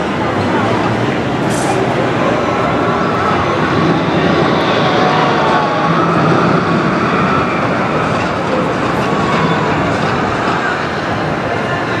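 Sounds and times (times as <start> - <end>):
even rushing noise: 0.0 - 11.7
crowd murmuring: 0.0 - 12.0.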